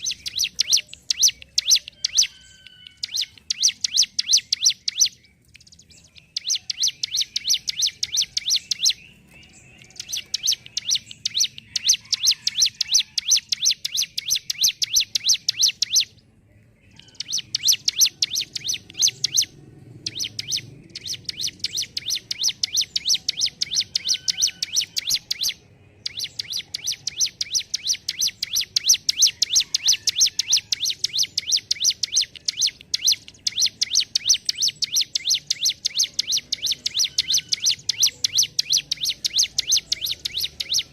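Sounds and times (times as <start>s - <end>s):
bird rattling song: 0.0s - 16.1s, 17.0s - 40.9s.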